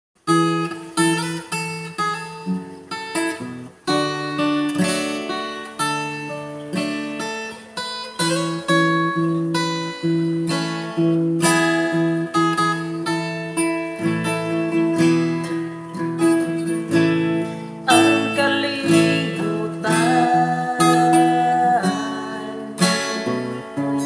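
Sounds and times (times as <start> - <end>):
acoustic guitar chords: 0.2 - 24.0.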